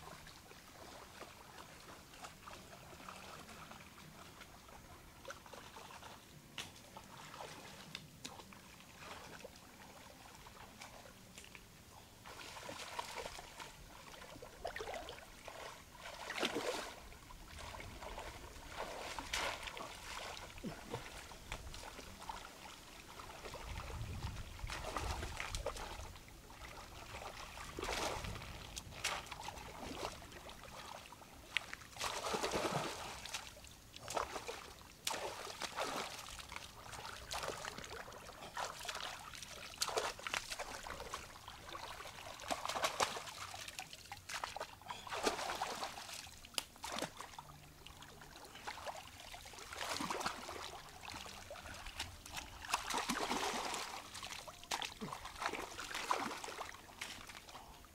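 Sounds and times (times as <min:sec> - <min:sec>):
water splashing and dribbling: 0:00.0 - 0:57.9.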